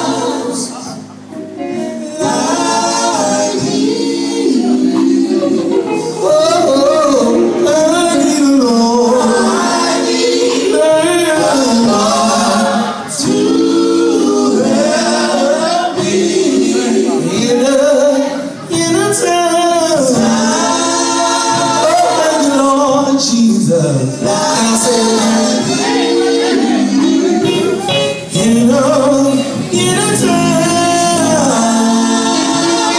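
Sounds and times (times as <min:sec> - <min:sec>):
male vocal group singing gospel: 0:00.0 - 0:32.9.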